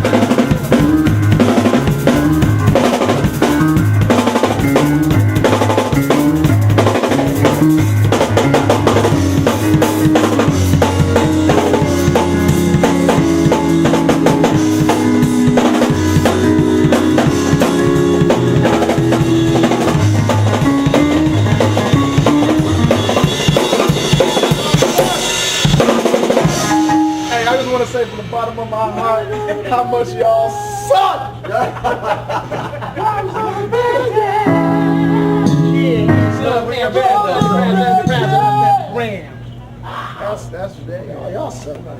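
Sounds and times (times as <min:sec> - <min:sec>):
bass line: 0:00.0 - 0:30.7, 0:34.2 - 0:39.2
held sustained notes: 0:00.0 - 0:31.1, 0:34.4 - 0:39.5
drum kit playing busy beat: 0:00.0 - 0:39.8.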